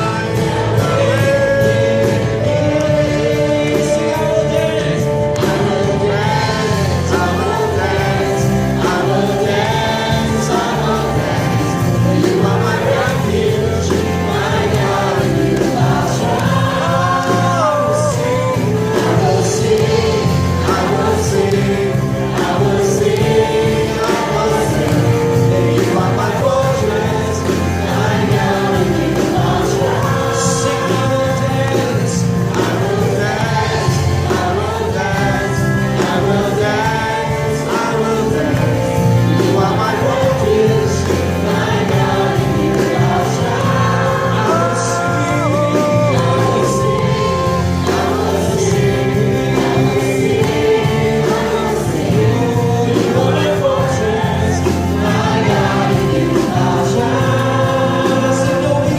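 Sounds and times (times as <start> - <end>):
instrumental backing: 0.0 - 58.9
voices singing gospel song: 0.0 - 58.9.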